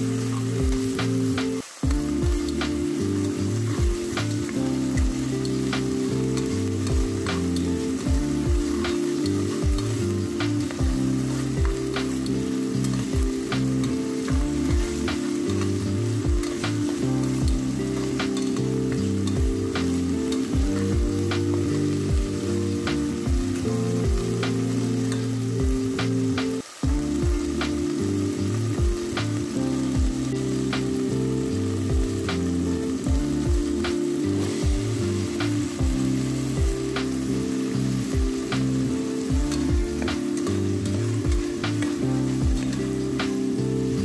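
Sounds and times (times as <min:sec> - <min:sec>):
food sizzling in hot oil: 0:00.0 - 0:44.0.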